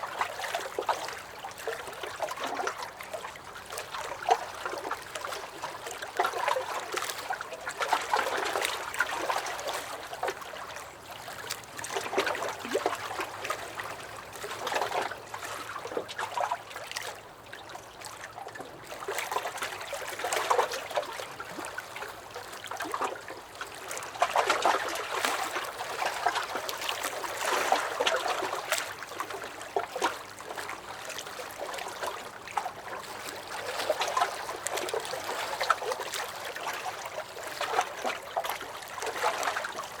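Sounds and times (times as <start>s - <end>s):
waves lapping against a dock: 0.0s - 40.0s.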